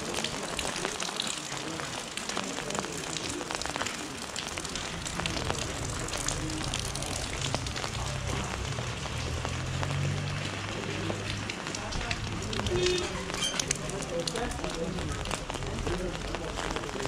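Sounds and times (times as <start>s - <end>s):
rain pattering on umbrella: 0.0s - 17.0s.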